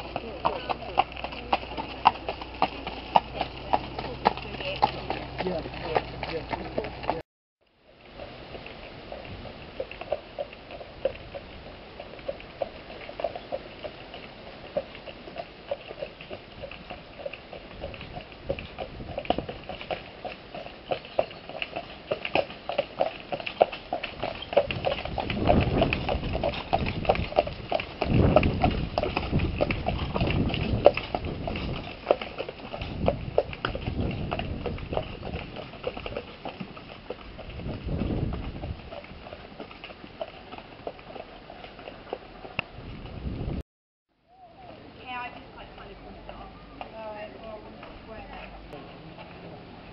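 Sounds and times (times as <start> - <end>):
carriage wheels crunching gravel: 0.0 - 7.2, 8.0 - 43.2
horse hooves on gravel: 0.0 - 7.2, 7.9 - 43.6.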